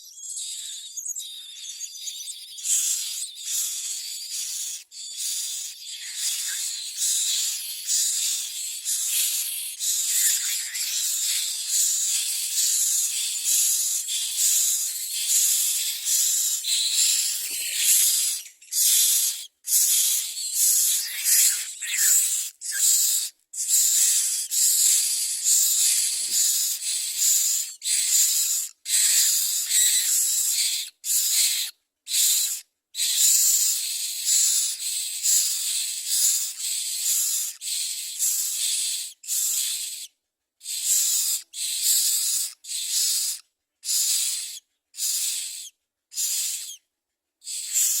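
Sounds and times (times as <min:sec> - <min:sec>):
nestlings begging with hissing rasps: 0:00.0 - 0:46.8, 0:47.4 - 0:48.0.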